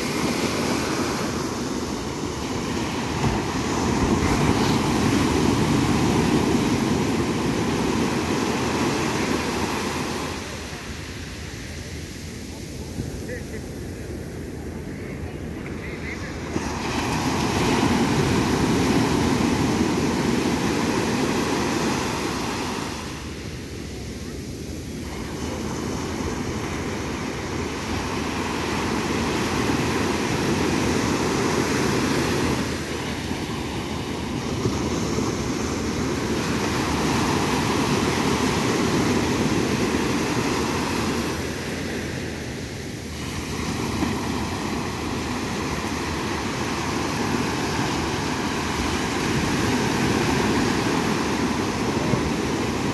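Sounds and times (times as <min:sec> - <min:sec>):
surf washing up beach: 0:00.0 - 0:52.9.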